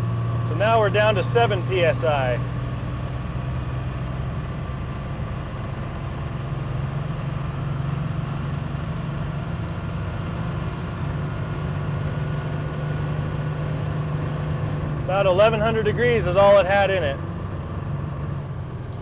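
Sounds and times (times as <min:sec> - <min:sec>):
diesel truck engine pulling: 0:00.0 - 0:19.0.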